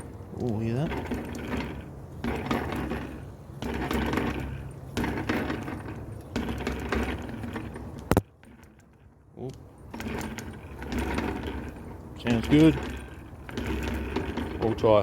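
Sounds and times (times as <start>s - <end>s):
bike parts rattling and clicking: 0.0s - 15.0s.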